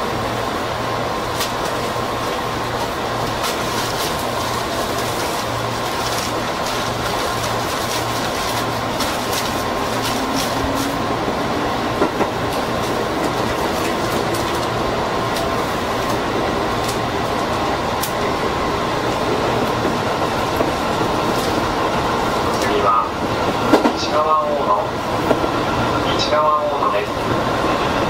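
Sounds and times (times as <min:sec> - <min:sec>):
electric train running: 0:00.0 - 0:28.0.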